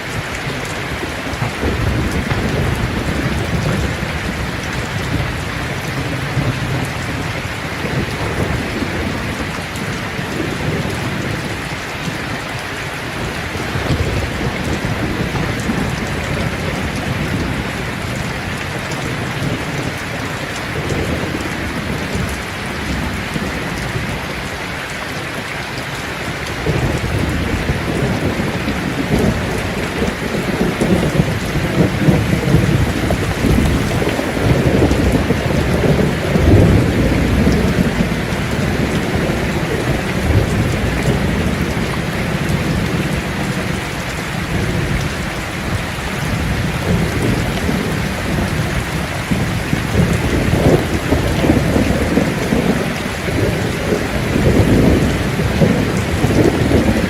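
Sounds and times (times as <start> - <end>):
thunder rumbling: 0.0 - 24.6, 25.7 - 57.0
steady rain falling: 0.0 - 57.0.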